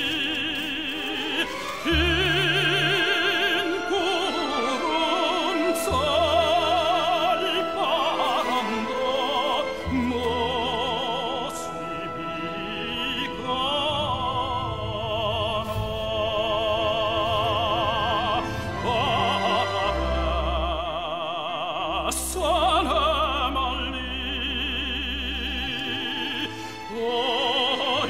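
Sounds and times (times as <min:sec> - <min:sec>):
classical singer with vibrato: 0:00.0 - 0:28.0
instrumental accompaniment: 0:00.0 - 0:28.0.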